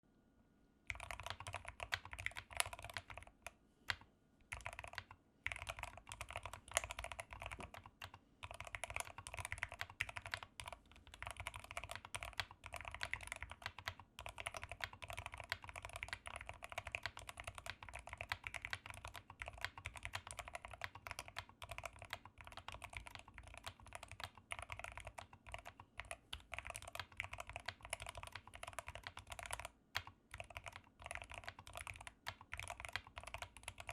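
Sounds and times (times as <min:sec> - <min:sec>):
mechanical keyboard typing: 0:00.9 - 0:33.9.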